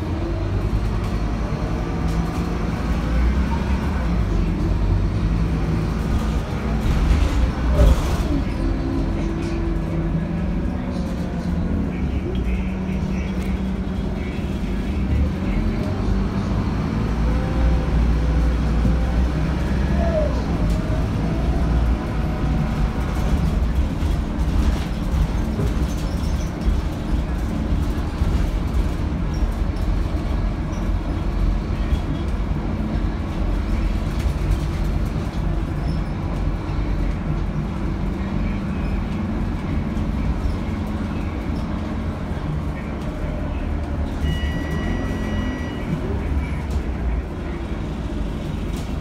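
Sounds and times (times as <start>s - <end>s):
bus engine low rumble: 0.0s - 49.0s.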